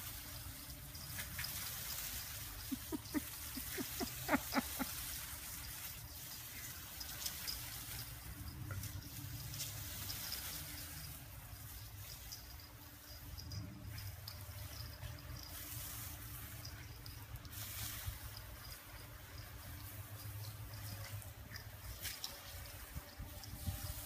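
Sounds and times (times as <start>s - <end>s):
garden hose spraying water: 0.0s - 24.0s
insects chirping: 0.1s - 23.6s.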